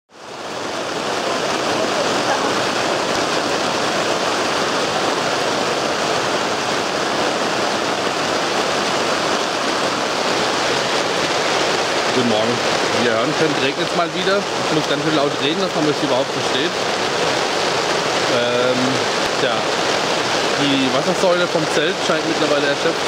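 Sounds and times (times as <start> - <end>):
heavy rain on a tent: 0.1 - 23.0.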